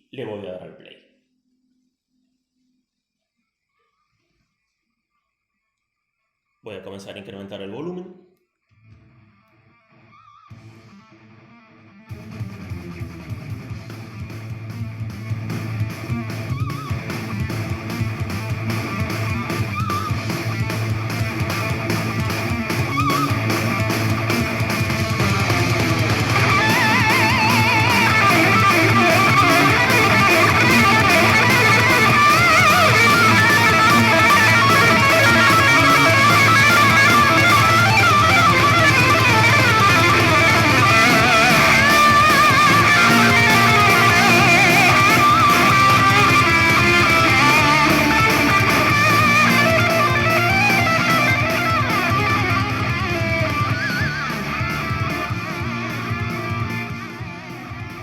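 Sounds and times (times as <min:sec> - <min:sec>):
hard rock song on speaker: 0:08.9 - 0:58.0.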